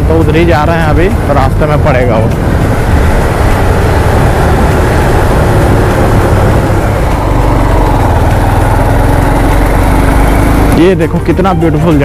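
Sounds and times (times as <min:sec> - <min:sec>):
wind rushing over microphone: 0:00.0 - 0:10.8
motorcycle engine running: 0:00.0 - 0:12.0.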